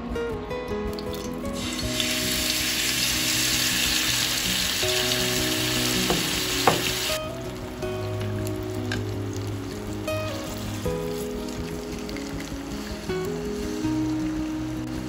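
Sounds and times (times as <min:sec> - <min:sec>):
pork sizzling in frying pan: 0:00.9 - 0:15.0.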